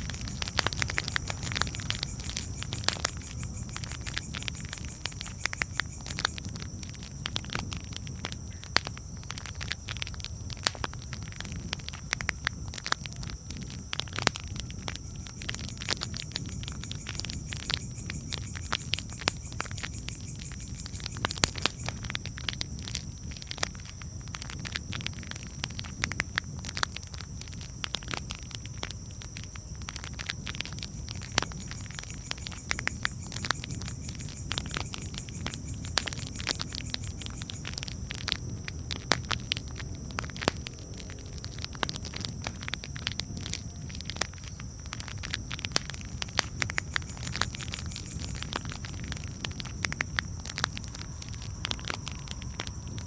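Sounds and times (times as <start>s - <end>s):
campfire crackling: 0.0s - 53.0s
low rumble of flames: 0.0s - 53.0s.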